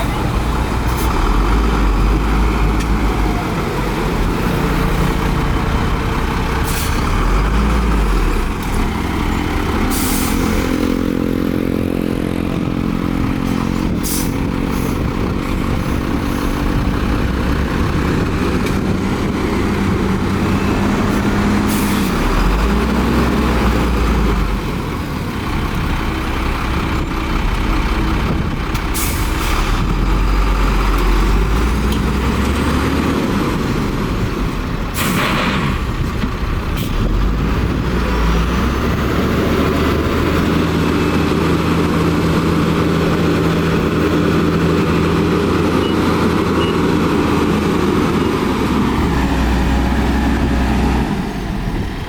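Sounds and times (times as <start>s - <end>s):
heavy diesel engines under load: 0.0s - 52.0s.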